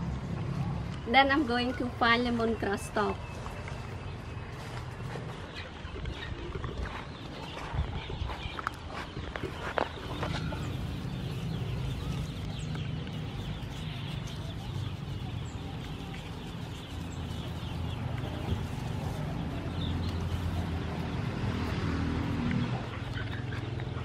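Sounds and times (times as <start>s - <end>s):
chickens clucking: 1.5s - 24.0s.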